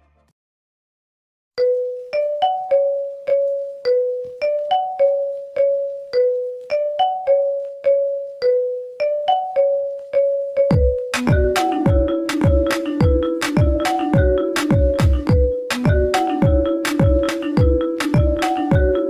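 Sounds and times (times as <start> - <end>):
marimba ringtone melody: 1.6 - 19.0.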